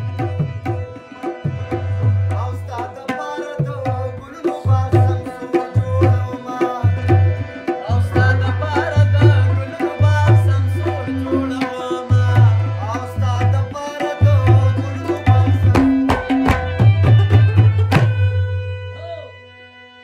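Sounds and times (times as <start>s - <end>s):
fast tabla strokes: 0.0s - 18.6s
harmonium chords: 0.0s - 20.0s
man singing: 0.2s - 17.3s.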